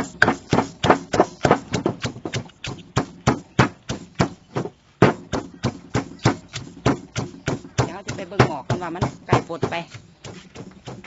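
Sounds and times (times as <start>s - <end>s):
pestle pounding in mortar: 0.0s - 11.0s.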